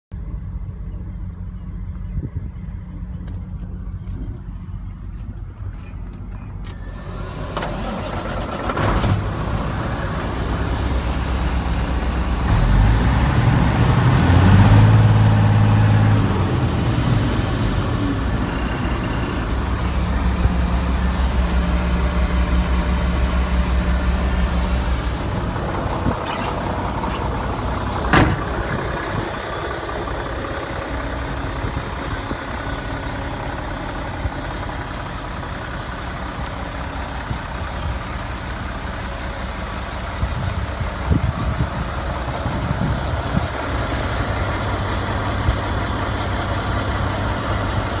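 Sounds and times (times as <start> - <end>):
diesel engine idling: 0.2 - 48.0.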